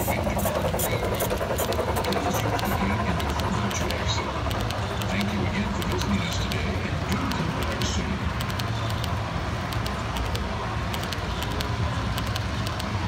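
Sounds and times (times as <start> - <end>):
model train cars rumbling: 0.0 - 13.0
wheels clicking over track: 0.0 - 13.0.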